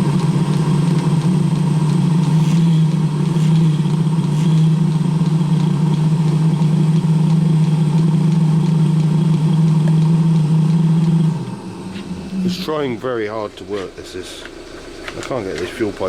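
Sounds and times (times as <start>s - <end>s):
diesel heater humming: 0.0s - 16.0s.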